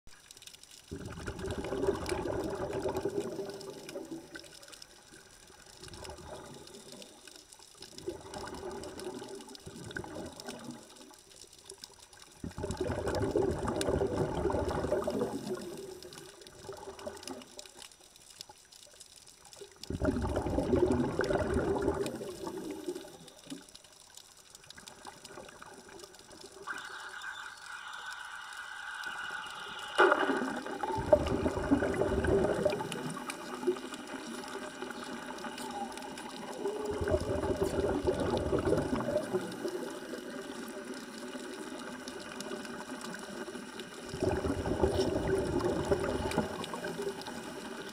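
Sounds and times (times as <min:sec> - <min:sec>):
underwater bubbles gurgling: 0:00.1 - 0:47.9.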